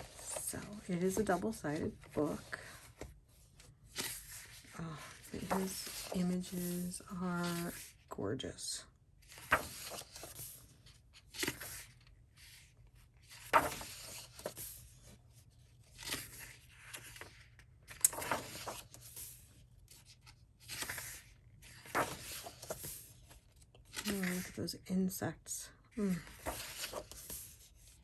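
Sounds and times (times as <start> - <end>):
paper pages turning: 0.0 - 7.9, 9.3 - 15.1, 15.8 - 24.6, 26.2 - 28.0.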